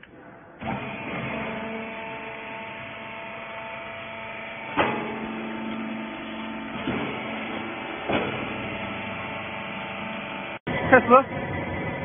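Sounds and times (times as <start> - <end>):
hydraulic power unit humming: 0.0 - 12.0.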